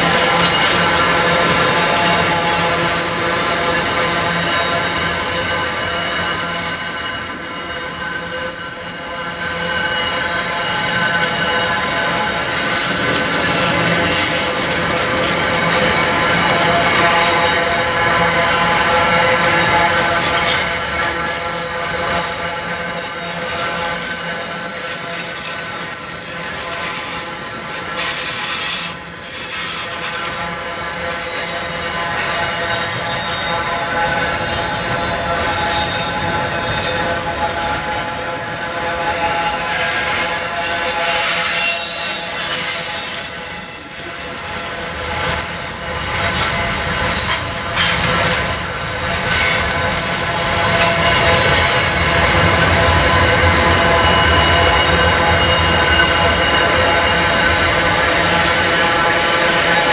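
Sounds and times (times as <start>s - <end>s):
high-pitched ringing tones: 0.0s - 59.9s
steel wheels on rails: 0.0s - 59.9s
thin steady whine: 0.0s - 59.9s.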